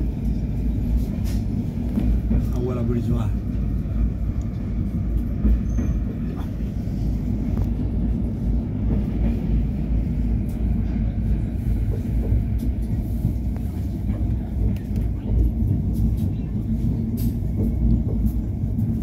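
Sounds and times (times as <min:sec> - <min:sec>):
low rumble of wheels on rails: 0:00.0 - 0:19.0.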